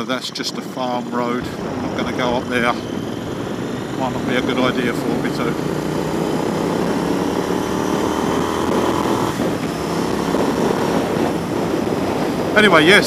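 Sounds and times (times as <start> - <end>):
road noise: 0.0 - 13.0
wind rush: 0.0 - 13.0
motorcycle engine running: 1.1 - 13.0.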